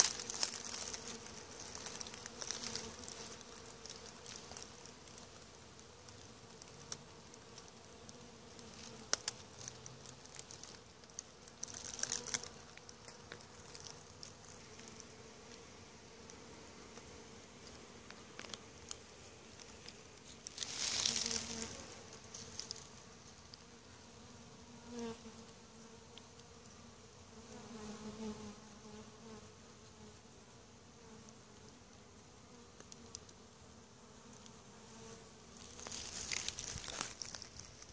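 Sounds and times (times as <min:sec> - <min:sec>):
bee swarm buzzing: 0:00.0 - 0:37.9.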